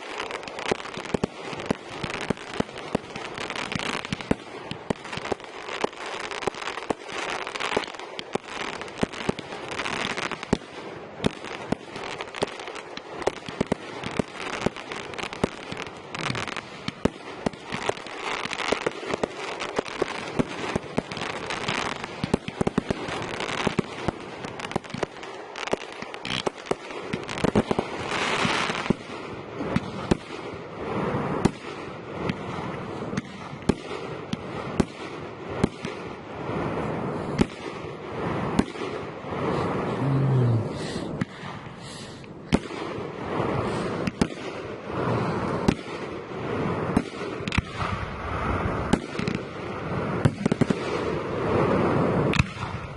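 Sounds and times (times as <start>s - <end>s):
fireworks bangs and pops: 0.0s - 52.9s
fireworks crackling and hissing: 0.0s - 52.9s.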